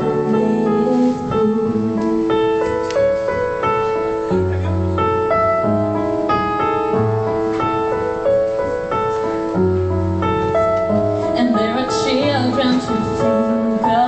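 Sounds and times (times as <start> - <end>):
solo piano chords: 0.0 - 14.0.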